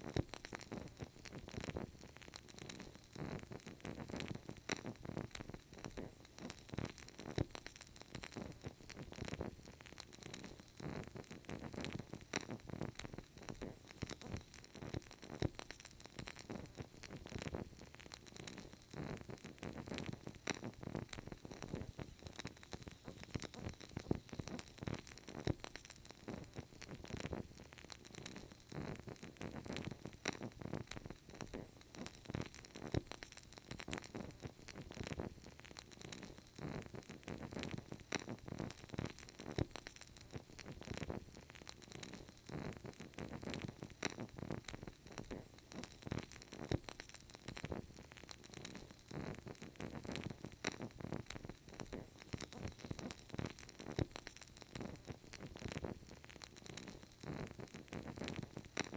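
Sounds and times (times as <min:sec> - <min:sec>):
candle crackling: 0:00.0 - 0:58.9.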